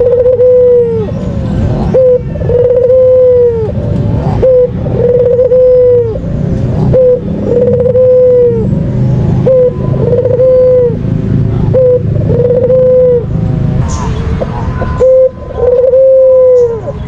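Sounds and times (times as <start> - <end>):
dove cooing: 0.0 - 1.2, 1.8 - 8.7, 9.4 - 11.0, 11.6 - 13.3, 13.9 - 17.0.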